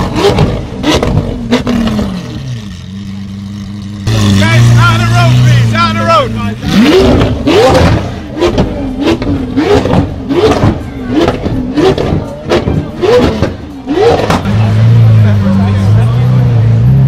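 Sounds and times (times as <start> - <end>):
car engine throttle blips: 0.0 - 16.8.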